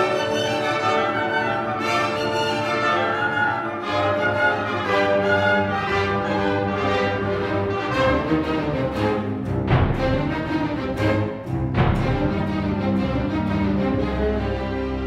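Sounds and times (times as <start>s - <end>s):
orchestra playing romantic music: 0.0s - 15.0s.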